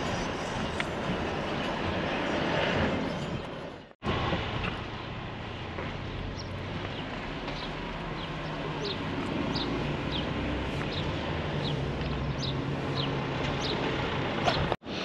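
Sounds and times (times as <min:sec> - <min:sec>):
vehicle road and engine hum: 0:00.0 - 0:15.0.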